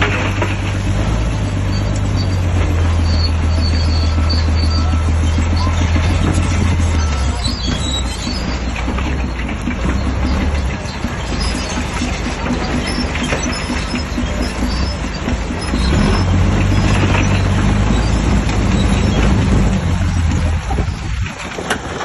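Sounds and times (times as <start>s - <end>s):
bulldozer diesel engine: 0.0s - 22.0s
tracks rumbling and clattering: 0.0s - 22.0s.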